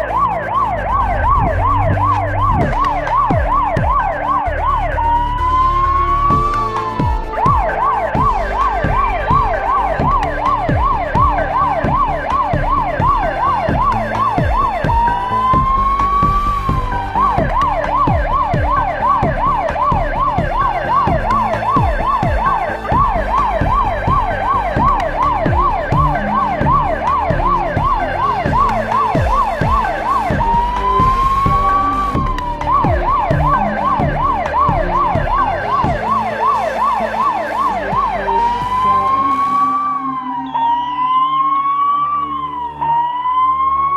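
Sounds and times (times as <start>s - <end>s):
police siren yelp and wail: 0.0s - 43.9s.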